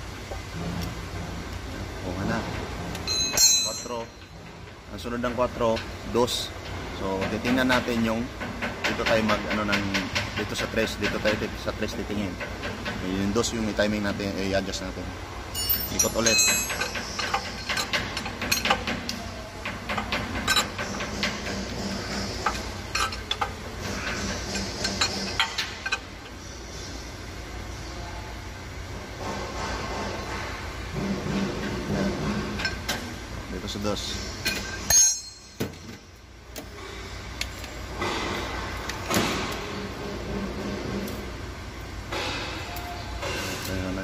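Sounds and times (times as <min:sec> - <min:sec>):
low workshop hum: 0:00.0 - 0:44.0.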